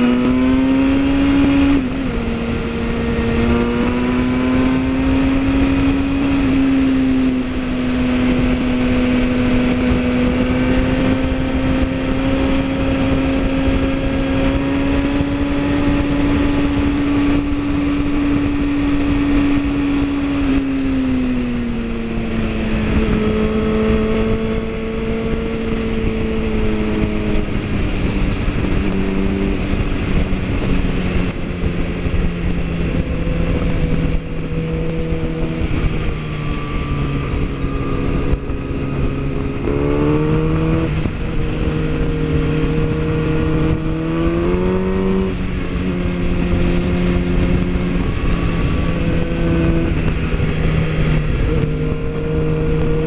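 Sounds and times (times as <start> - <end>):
motorcycle engine running: 0.0 - 53.0
wind noise: 0.0 - 53.0.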